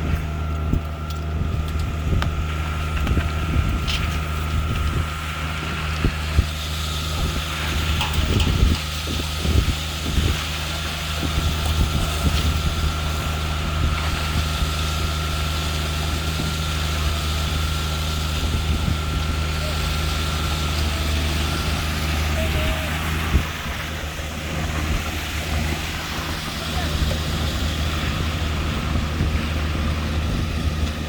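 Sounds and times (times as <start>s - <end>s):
diesel truck engine running: 0.0s - 31.0s
thin steady whine: 0.0s - 31.0s.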